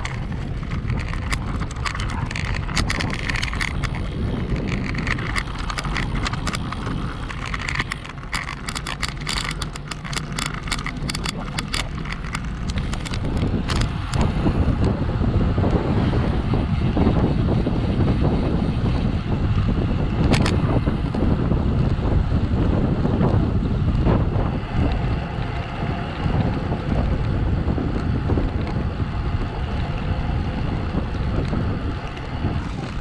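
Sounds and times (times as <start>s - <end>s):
bike rattling over cobblestones: 0.0s - 33.0s
wind rumble on microphone: 0.0s - 33.0s.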